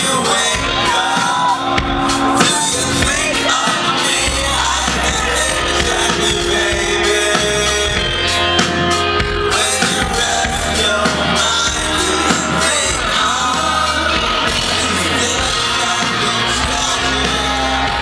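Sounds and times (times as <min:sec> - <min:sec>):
drum kit: 0:00.0 - 0:18.0
electric guitar: 0:00.0 - 0:18.0
heavy steady bass: 0:00.0 - 0:18.0.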